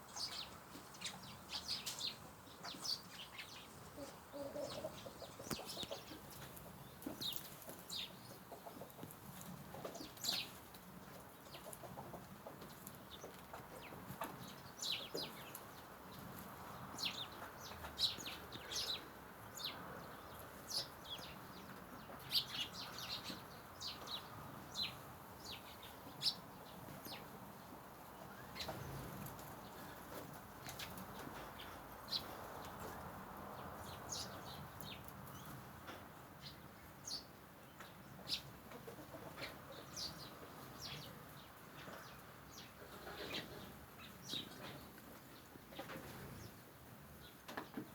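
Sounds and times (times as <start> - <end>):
birds chirping: 0.0 - 9.0, 12.8 - 47.9.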